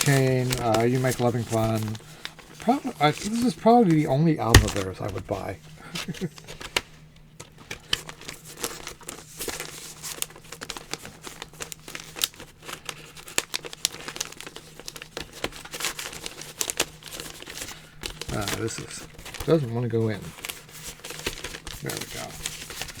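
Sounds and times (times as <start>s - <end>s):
paper crackles: 0.0s - 23.0s
paper packaging crinkling: 0.0s - 23.0s.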